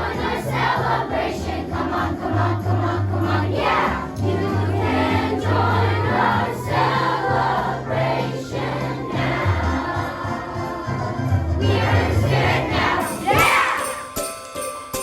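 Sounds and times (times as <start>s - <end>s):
choir singing: 0.0s - 14.1s
instrumental accompaniment: 0.0s - 15.0s.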